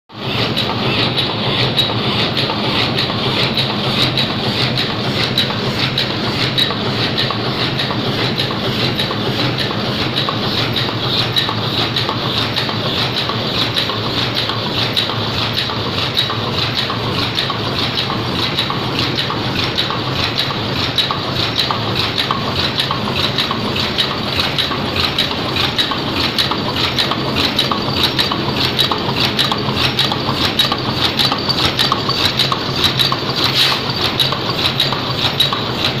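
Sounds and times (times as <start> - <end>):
paper cup machine clattering: 0.2 - 36.0.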